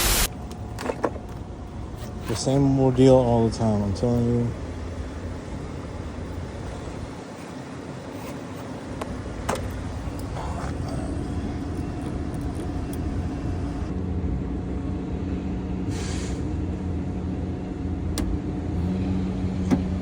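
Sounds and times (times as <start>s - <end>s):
vehicle engine idling: 0.1s - 20.0s.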